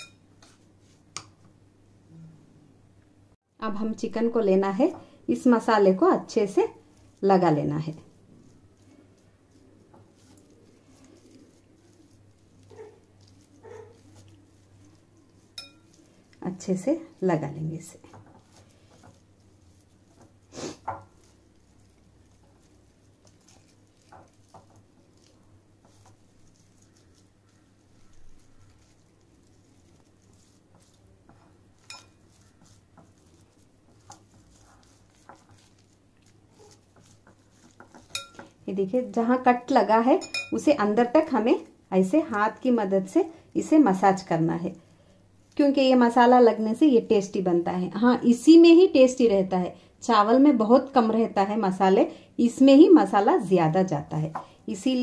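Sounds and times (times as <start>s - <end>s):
wet squishing of hands in marinade: 4.4s - 49.4s, 50.1s - 55.0s.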